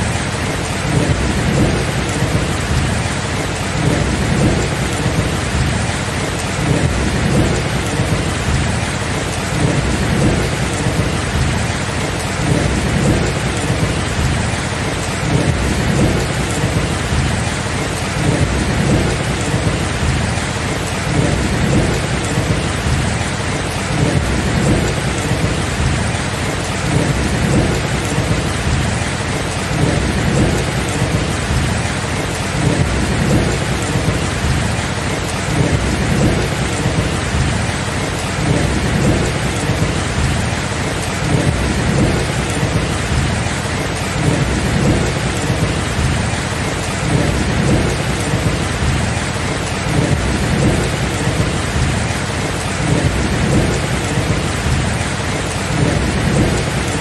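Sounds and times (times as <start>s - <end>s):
heavy rain falling: 0.0s - 57.0s
low rumble of thunder: 0.0s - 57.0s.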